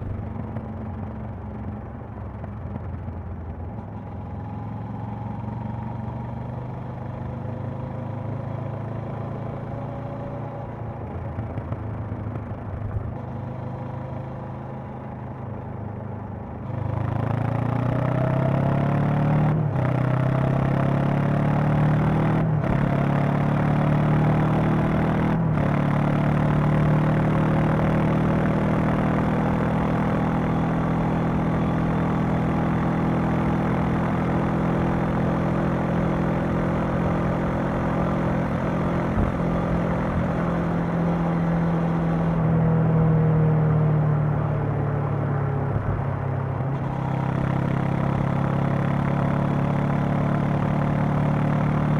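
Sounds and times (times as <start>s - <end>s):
motorcycle engine accelerating: 0.0s - 15.9s, 16.5s - 51.9s.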